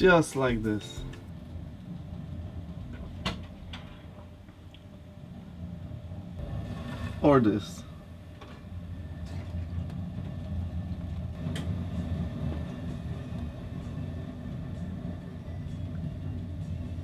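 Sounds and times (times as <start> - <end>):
ship low rumble: 0.0 - 17.0.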